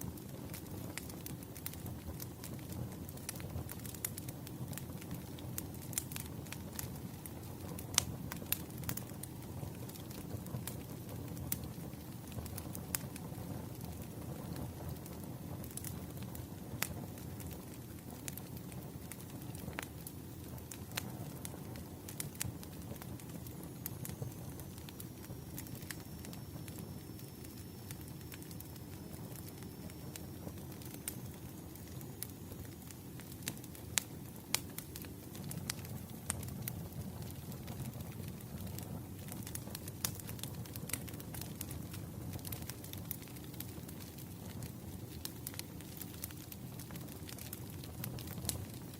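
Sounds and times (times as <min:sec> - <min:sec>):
firewood crackling and popping: 0:00.0 - 0:48.9.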